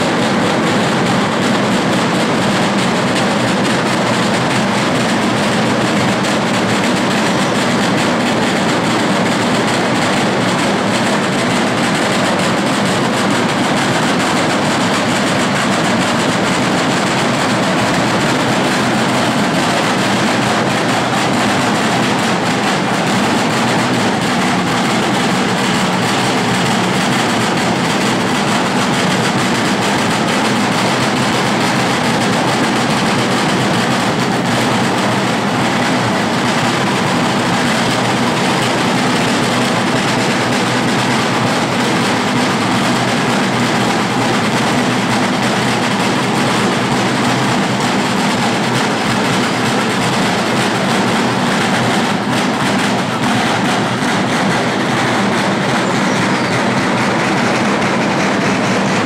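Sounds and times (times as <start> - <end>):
marching drums rolling rhythm: 0.0 - 59.0.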